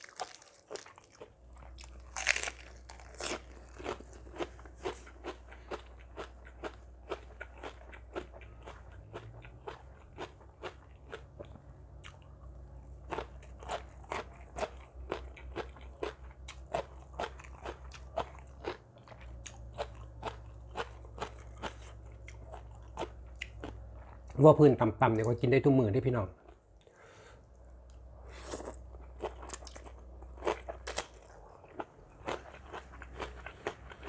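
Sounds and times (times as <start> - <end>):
crunchy bites and chewing: 0.0 - 12.3, 13.0 - 23.8, 28.4 - 34.0.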